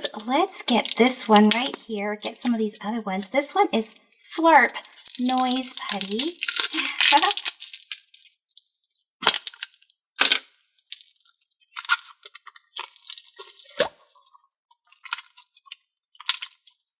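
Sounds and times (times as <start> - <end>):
plastic container crinkling and clicking: 0.0 - 14.0.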